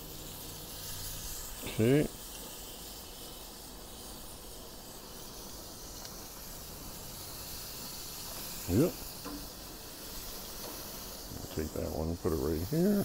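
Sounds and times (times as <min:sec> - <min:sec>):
steaks sizzling on a grill: 0:00.0 - 0:13.0.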